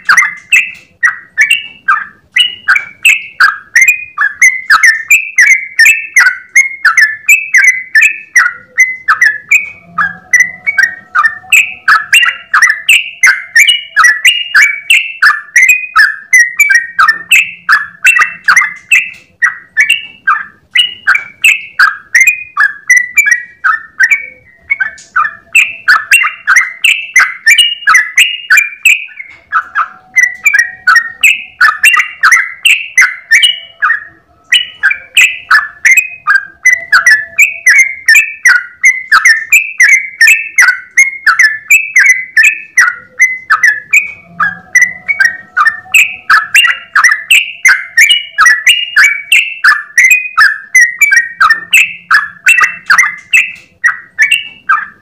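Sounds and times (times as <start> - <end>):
bulbul chattering song: 0.0 - 55.0.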